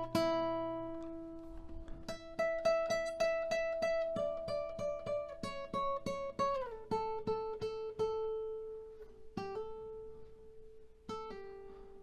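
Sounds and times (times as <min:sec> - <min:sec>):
guitar plucking: 0:00.0 - 0:12.0.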